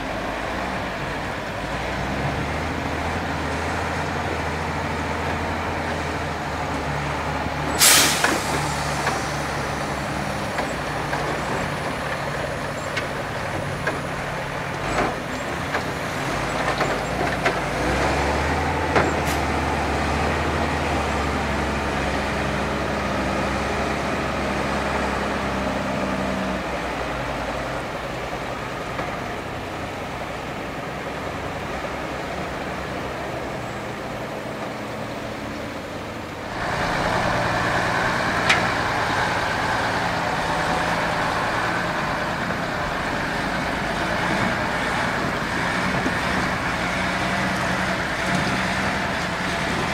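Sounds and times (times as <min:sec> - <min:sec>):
diesel truck engines under load: 0:00.0 - 0:49.9.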